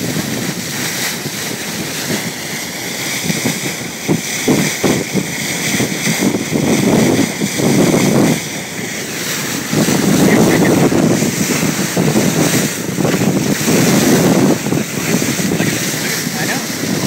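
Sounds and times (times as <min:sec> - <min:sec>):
water rushing along boat: 0:00.0 - 0:17.0
wind buffeting microphone: 0:00.0 - 0:17.0.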